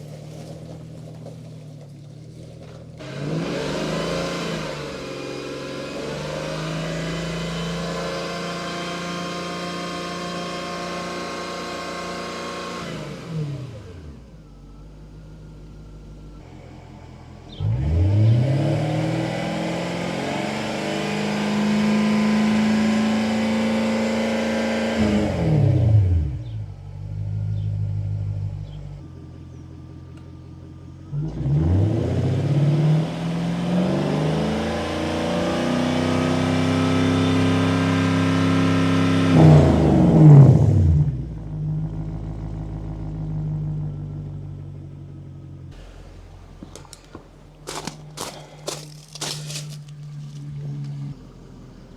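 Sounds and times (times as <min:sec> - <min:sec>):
car engine revving: 0:00.0 - 0:14.8, 0:15.4 - 0:51.9.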